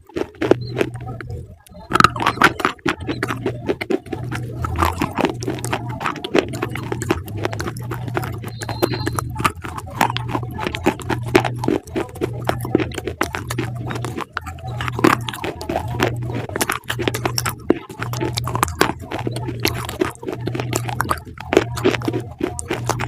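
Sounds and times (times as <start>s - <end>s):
animal crunching and chewing food: 0.0s - 23.0s
low hum: 0.0s - 23.0s.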